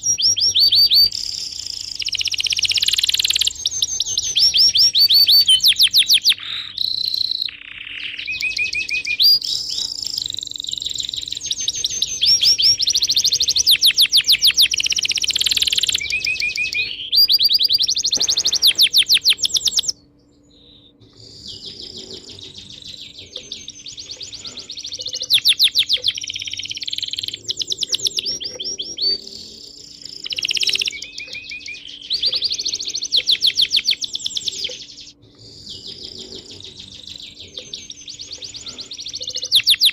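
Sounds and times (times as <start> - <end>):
faint steady hum: 0.0 - 39.9
small birds chirping and trilling: 0.0 - 39.9.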